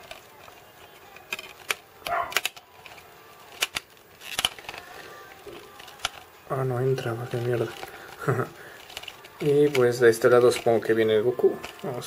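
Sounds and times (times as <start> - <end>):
plastic disc case clicks: 0.0 - 12.0.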